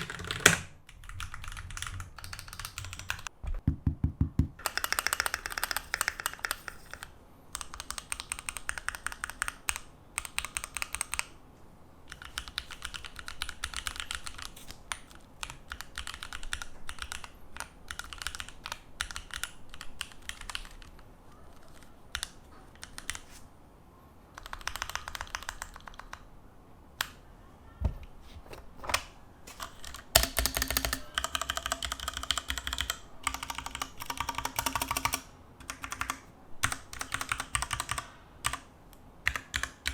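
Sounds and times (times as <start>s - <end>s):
mechanical keyboard typing: 0.0s - 3.3s, 4.3s - 11.4s, 12.1s - 23.4s, 24.3s - 26.3s, 28.9s - 39.9s.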